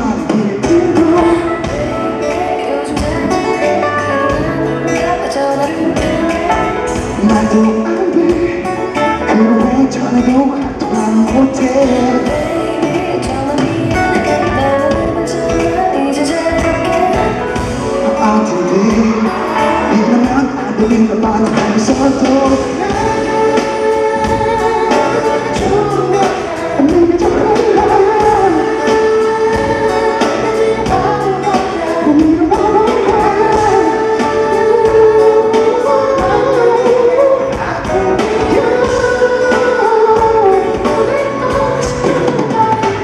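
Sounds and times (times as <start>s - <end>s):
band playing a steady beat: 0.0s - 43.0s
person singing: 0.0s - 43.0s.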